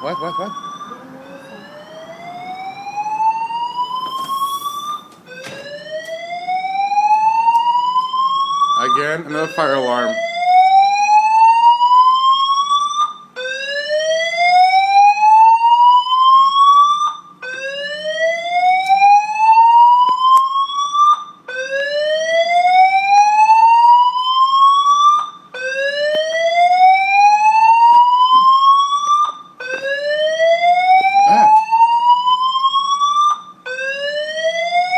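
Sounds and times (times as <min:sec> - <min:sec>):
fire alarm rising whoop tone: 0:00.0 - 0:34.9.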